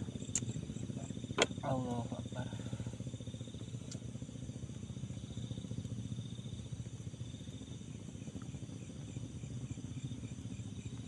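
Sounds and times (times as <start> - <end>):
insects chirping faintly: 0.0 - 11.0
low pulsing engine-like rumble: 0.0 - 11.0.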